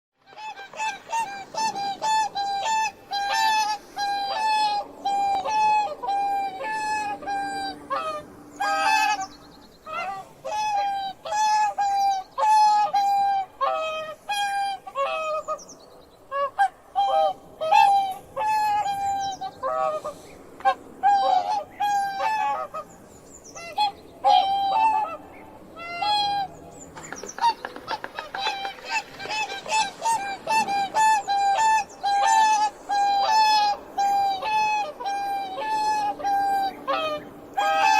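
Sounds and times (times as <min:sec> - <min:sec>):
swans honking: 0:00.2 - 0:37.9.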